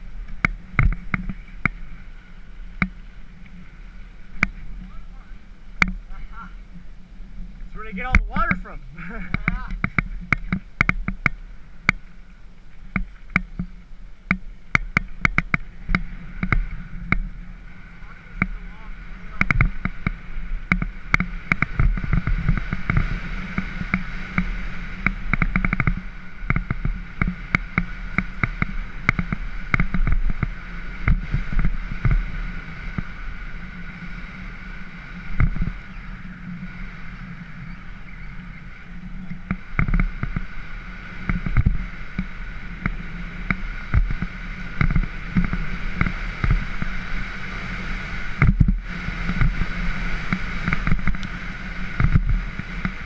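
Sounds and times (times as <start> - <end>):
bike rattling over bumps: 0.0 - 53.0
tyres rumbling on gravel: 0.0 - 53.0.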